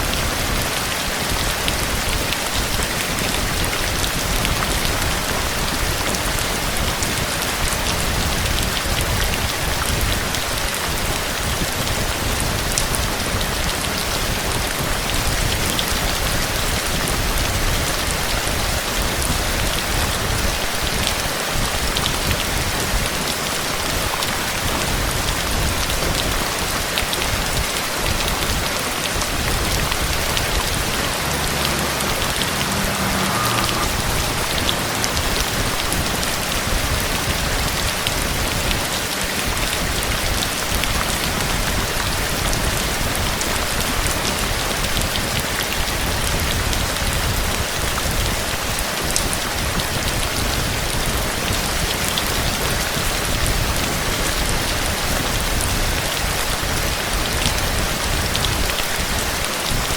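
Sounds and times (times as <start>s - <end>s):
heavy rain pattering: 0.0s - 59.9s.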